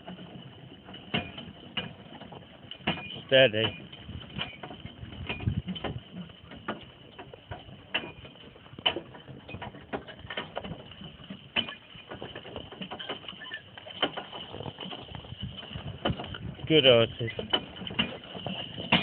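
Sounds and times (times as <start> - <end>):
horse-drawn cart rattling: 0.0 - 19.0.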